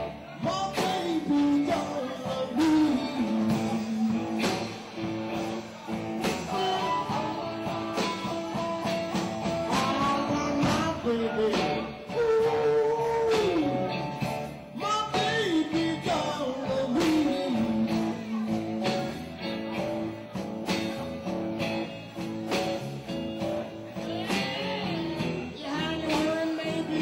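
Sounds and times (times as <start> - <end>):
drums keeping steady beat: 0.0 - 27.0
electric guitars: 0.0 - 27.0.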